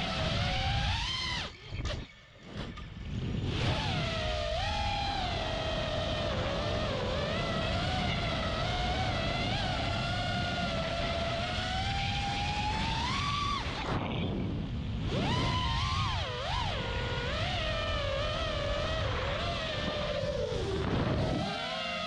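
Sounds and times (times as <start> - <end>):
drone motors whining: 0.0 - 22.0
wind rushing on microphone: 0.0 - 22.0.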